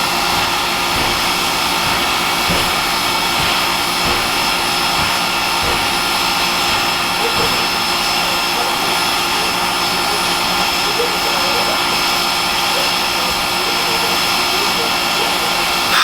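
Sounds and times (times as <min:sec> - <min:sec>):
steam train running: 0:00.0 - 0:16.0
voices murmuring: 0:00.0 - 0:16.0.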